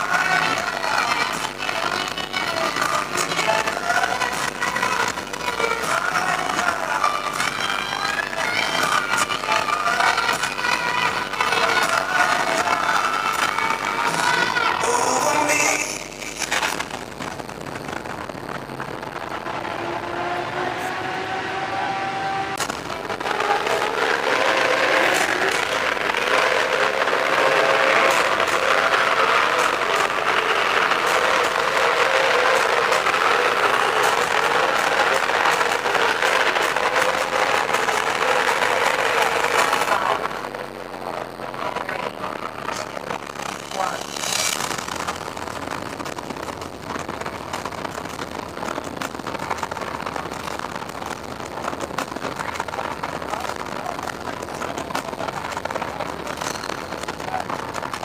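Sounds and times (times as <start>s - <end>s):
large crowd applauding: 0.0s - 58.0s.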